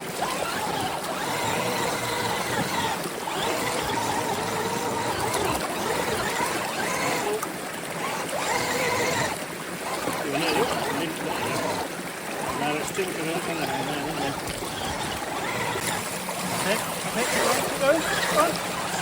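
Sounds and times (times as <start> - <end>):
electric motor whining: 0.0 - 19.0
stream running: 0.0 - 19.0.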